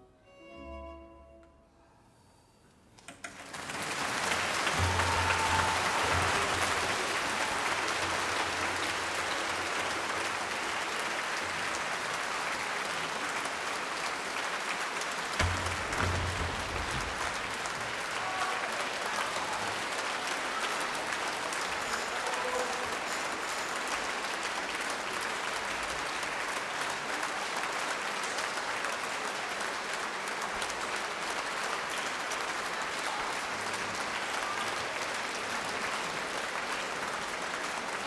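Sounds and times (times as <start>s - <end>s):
concert audience applauding: 3.2s - 38.0s.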